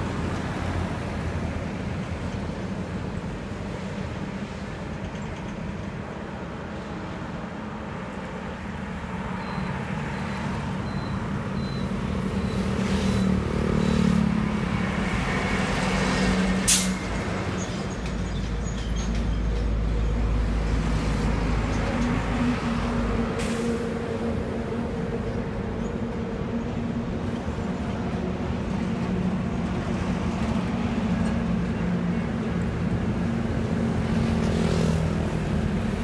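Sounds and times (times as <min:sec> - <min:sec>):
heavy lorry rumbling past: 0:00.0 - 0:36.0
highway traffic passing: 0:00.0 - 0:36.0.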